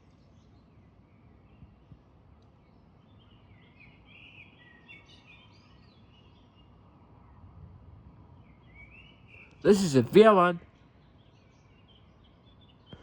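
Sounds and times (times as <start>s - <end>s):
songbird chirping: 0.0s - 7.4s, 8.4s - 13.0s
low outdoor background noise: 0.0s - 13.0s.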